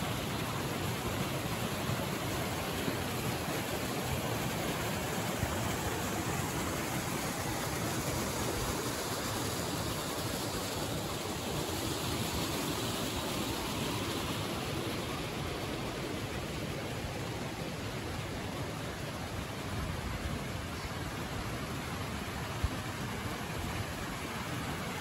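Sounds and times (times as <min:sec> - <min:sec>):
stream flowing over rocks: 0:00.0 - 0:25.0.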